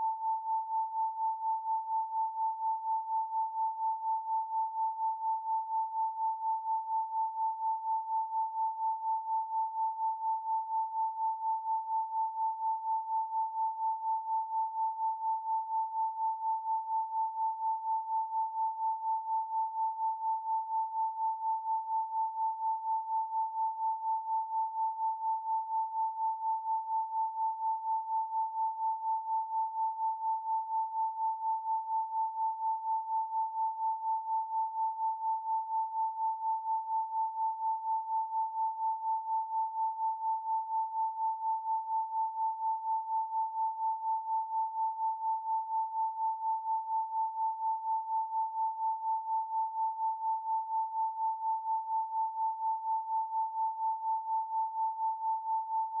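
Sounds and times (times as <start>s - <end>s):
pulsing sine tone: 0.0s - 56.0s.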